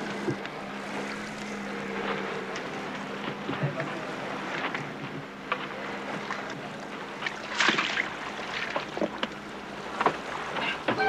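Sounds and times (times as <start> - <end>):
water splashing and rushing: 0.0 - 11.0.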